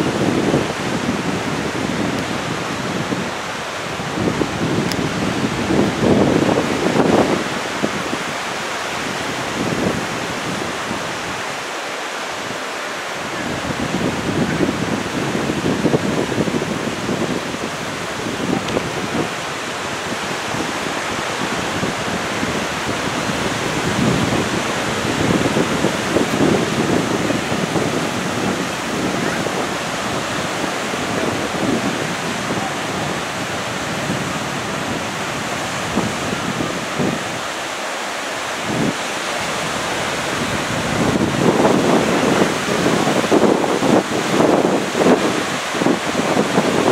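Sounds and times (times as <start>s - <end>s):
surf washing onto beach: 0.0s - 46.9s
wind buffeting microphone: 0.0s - 46.9s.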